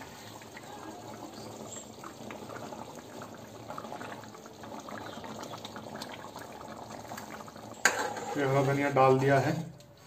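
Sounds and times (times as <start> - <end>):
curry bubbling with pops: 0.0 - 10.0.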